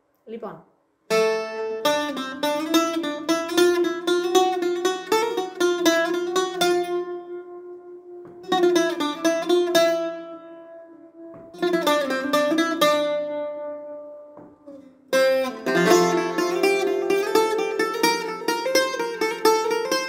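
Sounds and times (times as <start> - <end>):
bouzouki melody: 1.1 - 20.0.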